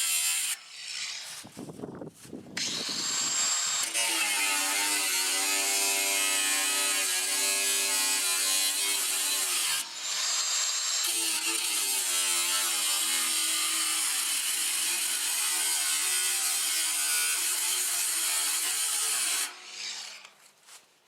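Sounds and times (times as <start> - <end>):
angle grinder running: 2.6 - 20.3.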